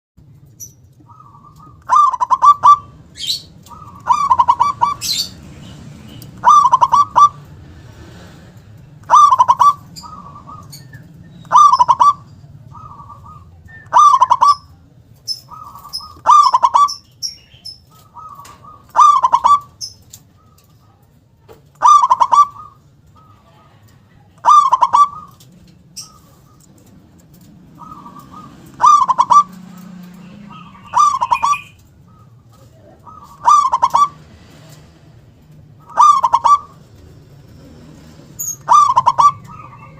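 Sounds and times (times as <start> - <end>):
dove cooing: 0.6 - 21.1, 21.7 - 39.9.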